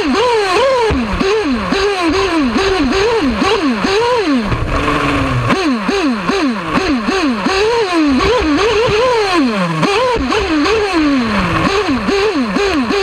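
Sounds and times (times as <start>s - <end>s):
rc buggy nitro engine revving: 0.0s - 13.0s.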